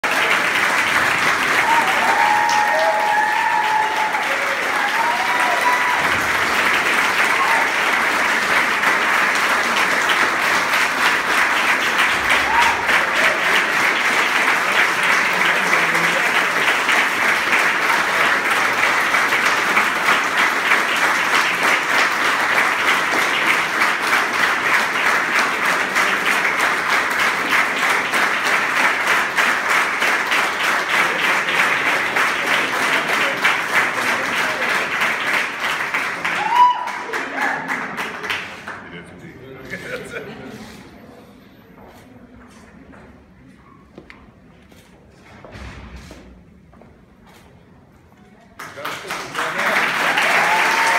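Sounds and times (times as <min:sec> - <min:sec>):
crowd applauding: 0:00.0 - 0:39.1, 0:48.6 - 0:50.9.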